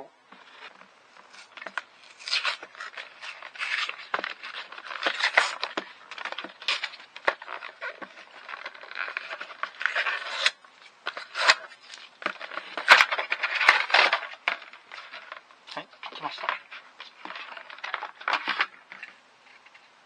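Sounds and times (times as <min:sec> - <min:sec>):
packaging rustling and crackling: 0:00.3 - 0:19.9.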